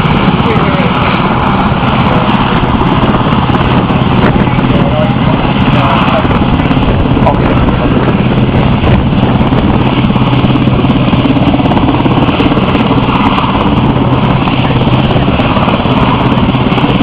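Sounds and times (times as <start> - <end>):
helicopter rotor and engines drone: 0.0 - 17.0.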